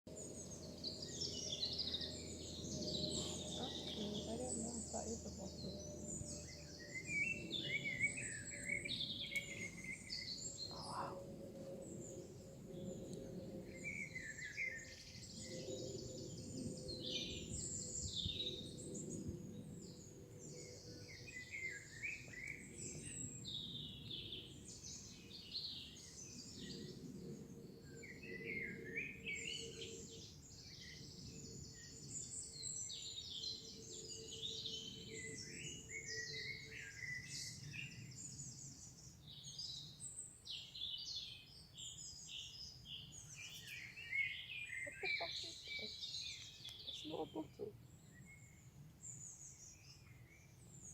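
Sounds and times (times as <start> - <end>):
songbirds singing: 0.1 - 50.9.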